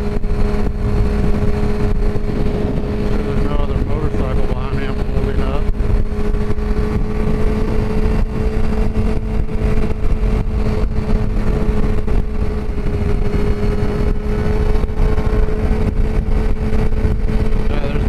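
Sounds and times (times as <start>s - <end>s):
motorcycle engine cruising: 0.0s - 18.0s
wind rush on microphone: 0.0s - 18.0s.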